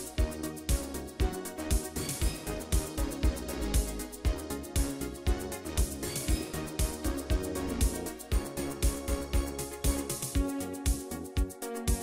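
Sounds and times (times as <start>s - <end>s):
synth-pop backing track: 0.0s - 12.0s.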